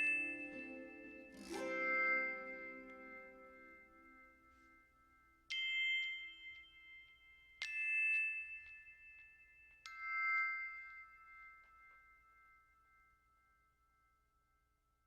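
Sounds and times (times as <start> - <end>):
bell-like struck notes: 0.0 - 13.8.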